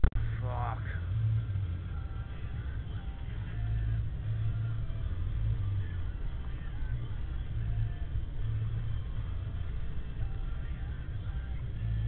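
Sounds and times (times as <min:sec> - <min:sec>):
van engine droning: 0:00.0 - 0:12.0.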